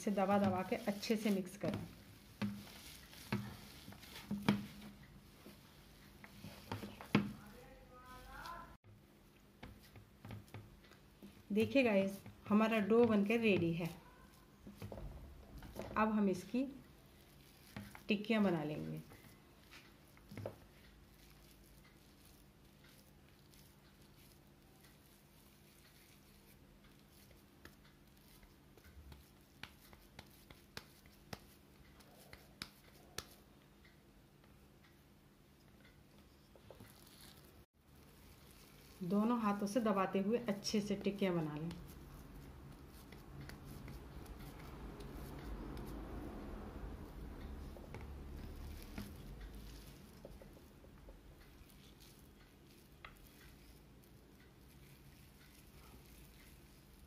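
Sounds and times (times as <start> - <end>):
hands patting dough: 0.0 - 33.6, 36.6 - 57.0.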